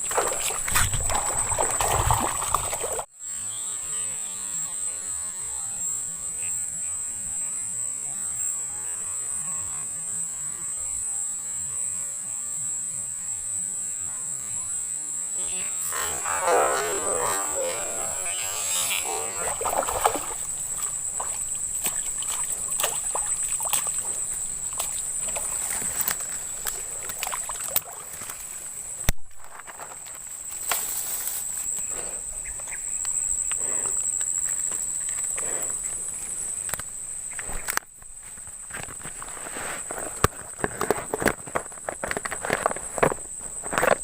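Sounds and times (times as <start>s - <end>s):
high-pitched insect drone: 0.1s - 44.0s.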